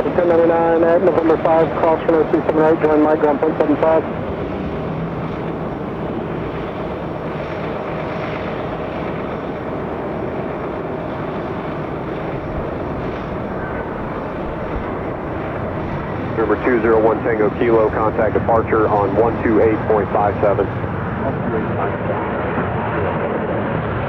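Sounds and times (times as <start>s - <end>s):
jet engines rumbling: 0.0s - 22.5s.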